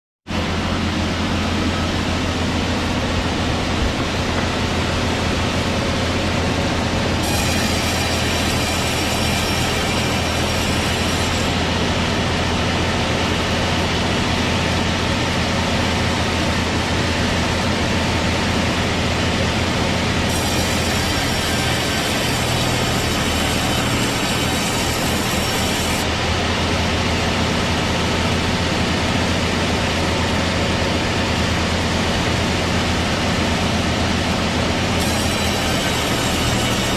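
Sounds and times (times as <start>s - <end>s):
sawmill machinery droning: 0.2s - 36.9s
high machine whine: 0.3s - 36.9s.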